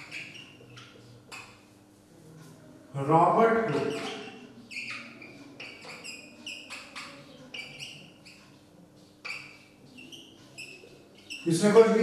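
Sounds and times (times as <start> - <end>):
marker squeaking on a whiteboard: 0.0 - 12.0.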